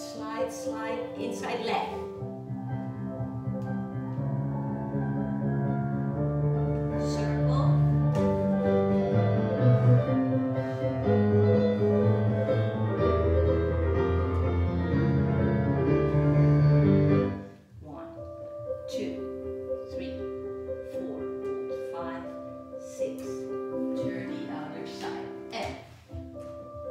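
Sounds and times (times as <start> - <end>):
solo piano melody: 0.0 - 26.9.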